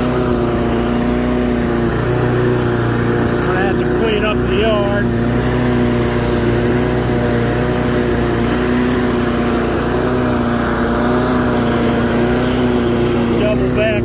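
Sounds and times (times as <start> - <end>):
lawn mower engine running: 0.0 - 14.0
mower deck cutting grass: 0.0 - 14.0.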